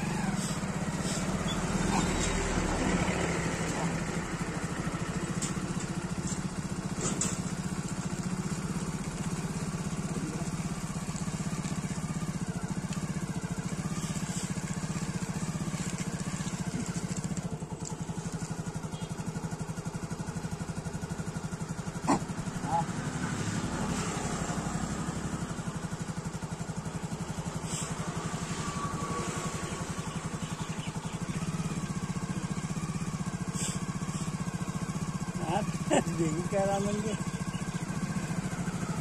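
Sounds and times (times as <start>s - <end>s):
small engine idling: 0.0s - 39.0s.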